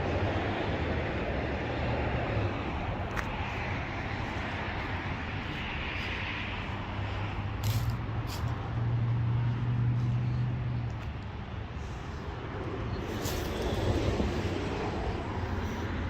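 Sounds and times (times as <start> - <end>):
low engine hum: 0.0 - 16.0
passing road traffic: 0.0 - 16.0.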